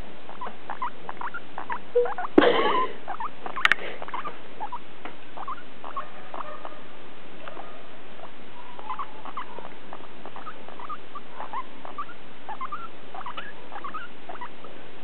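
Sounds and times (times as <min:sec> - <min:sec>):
guinea pig squeaking: 0:00.3 - 0:06.7, 0:07.4 - 0:14.6.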